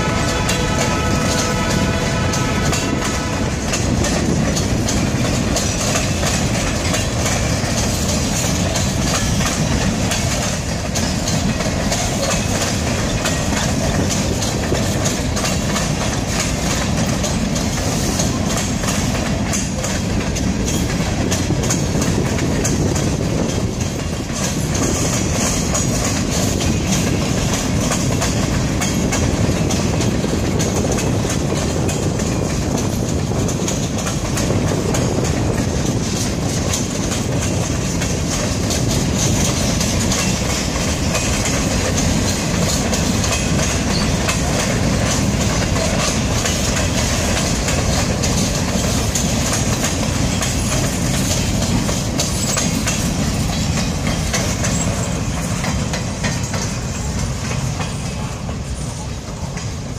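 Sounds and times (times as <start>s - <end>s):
freight train rolling past: 0.0s - 59.9s
wheels clicking over rail joints: 0.0s - 59.9s.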